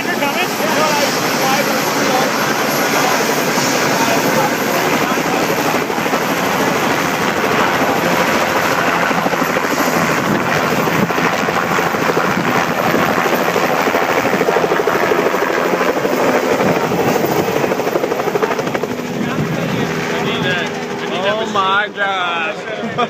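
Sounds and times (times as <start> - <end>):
helicopter rotor blades chopping: 0.0 - 23.0.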